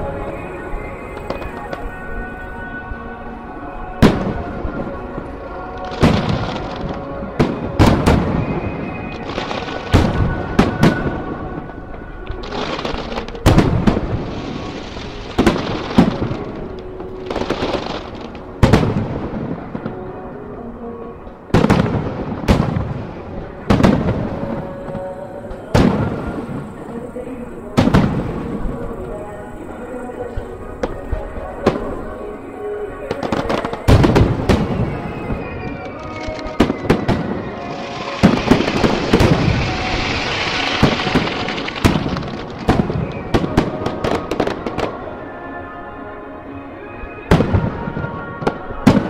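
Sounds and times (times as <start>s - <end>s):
firework booms with rolling echo: 4.0s - 20.2s, 21.5s - 32.0s, 33.0s - 45.1s, 47.3s - 49.0s.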